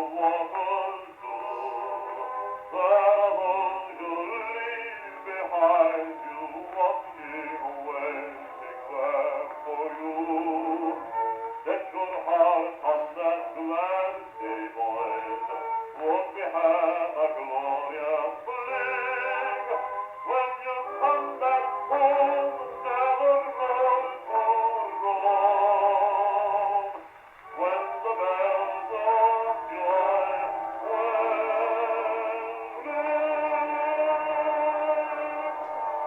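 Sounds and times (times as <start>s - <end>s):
old record of man singing: 0.0s - 36.0s.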